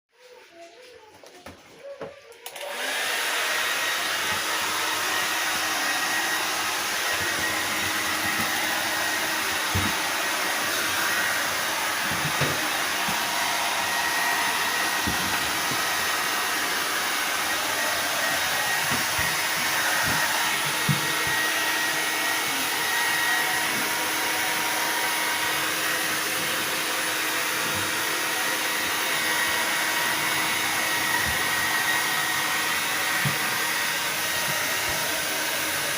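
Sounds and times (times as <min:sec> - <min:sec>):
hair dryer blowing: 0:02.4 - 0:35.9.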